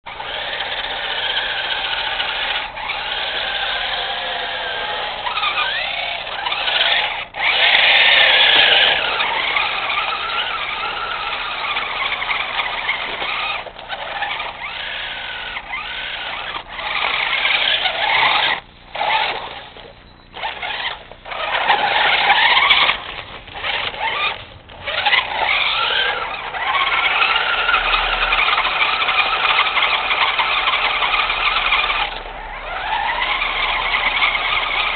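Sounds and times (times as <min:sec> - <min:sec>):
toy truck motor whining: 0:00.1 - 0:34.9.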